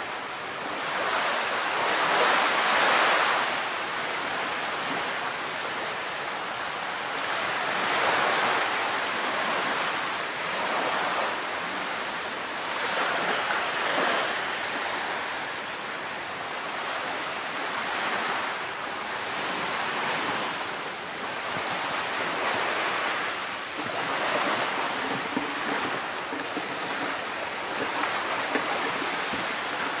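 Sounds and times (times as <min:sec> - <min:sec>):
surf washing onto beach: 0:00.0 - 0:30.0.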